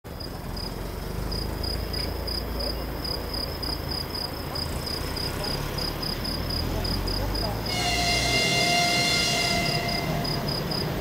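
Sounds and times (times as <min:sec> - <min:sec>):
cricket chirping: 0:00.1 - 0:08.1, 0:09.3 - 0:11.0.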